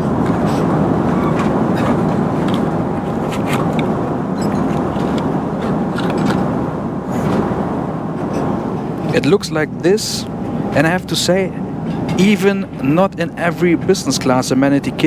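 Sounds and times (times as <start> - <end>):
aircraft cabin engine roar: 0.0 - 15.0.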